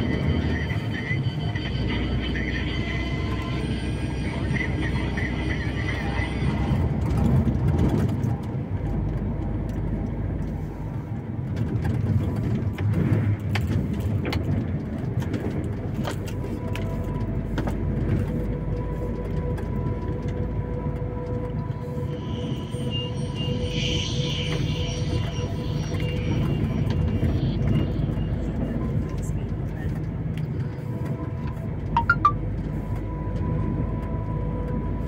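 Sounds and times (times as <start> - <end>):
engine and road rumble: 0.0 - 35.0.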